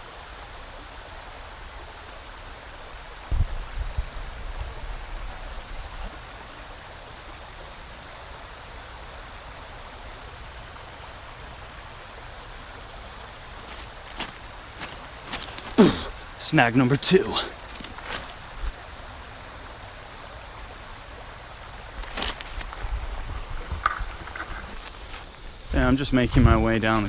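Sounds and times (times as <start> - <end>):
creek water rushing over rocks: 0.0 - 27.0.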